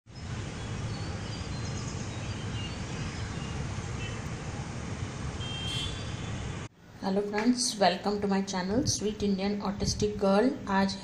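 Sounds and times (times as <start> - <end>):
low city rumble: 0.1 - 11.0.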